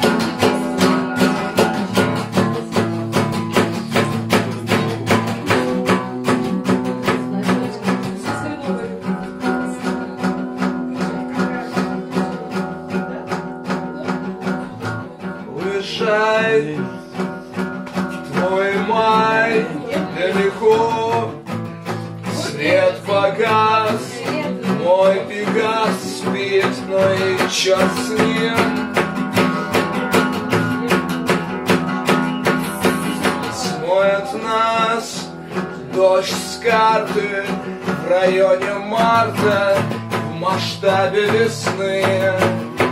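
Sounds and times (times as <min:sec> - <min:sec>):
acoustic guitar strumming: 0:00.0 - 0:42.9
man singing: 0:00.0 - 0:42.9.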